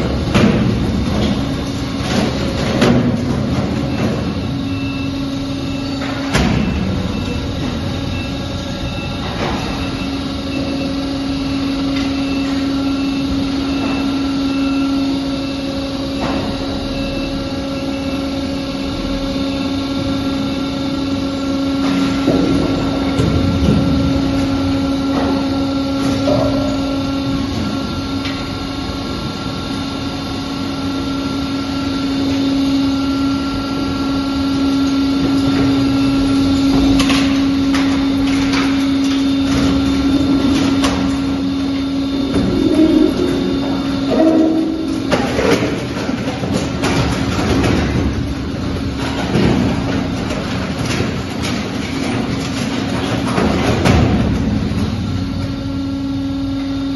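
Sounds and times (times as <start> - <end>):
hydraulic power unit hum: 0.0 - 56.9.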